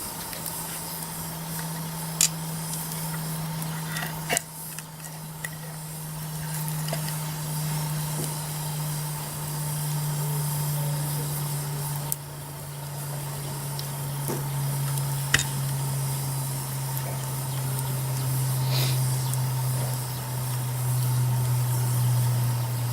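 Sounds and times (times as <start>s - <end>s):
campfire hissing: 0.0s - 22.9s
fire popping and cracking: 0.0s - 22.9s
low hum: 0.0s - 22.9s.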